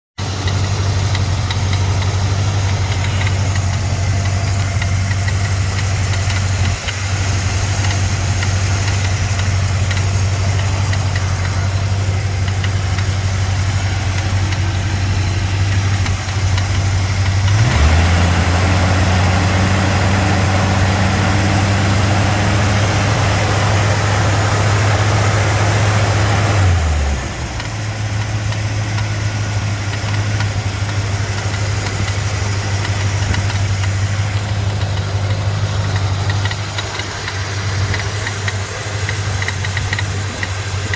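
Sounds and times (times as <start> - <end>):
engine idling: 0.2 - 40.9
fan rattle: 0.2 - 40.9.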